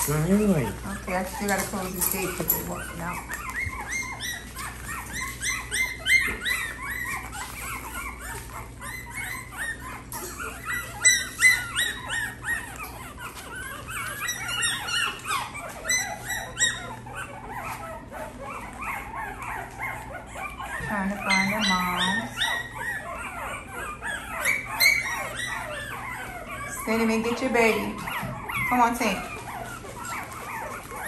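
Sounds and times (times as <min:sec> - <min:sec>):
puppies crying: 0:00.0 - 0:31.0.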